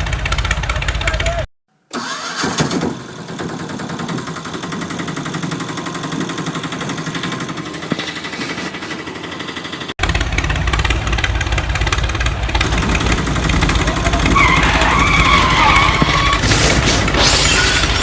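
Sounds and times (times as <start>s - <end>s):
deep loud engine: 0.0s - 18.0s
engine running with fast pulse: 0.0s - 18.0s.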